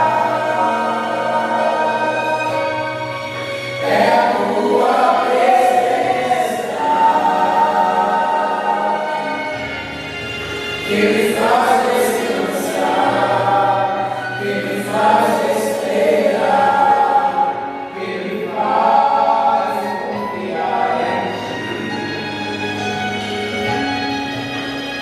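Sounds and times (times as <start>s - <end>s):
choir singing a hymn: 0.0s - 25.0s.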